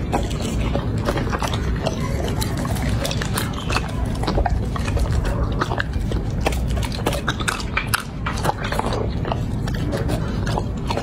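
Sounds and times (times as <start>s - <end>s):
dog chewing meat: 0.0s - 11.0s
teeth and tongue clicks: 0.0s - 11.0s.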